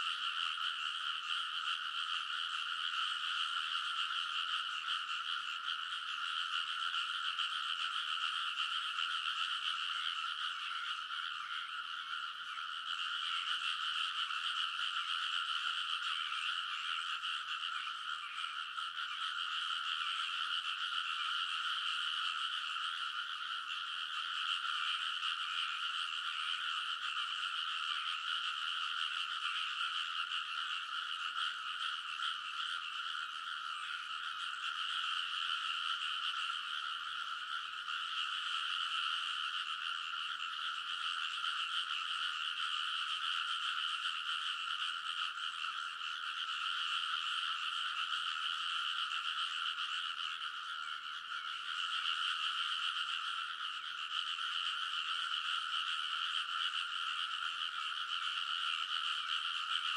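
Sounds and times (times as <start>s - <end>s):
chorus of frogs calling: 0.0s - 59.9s.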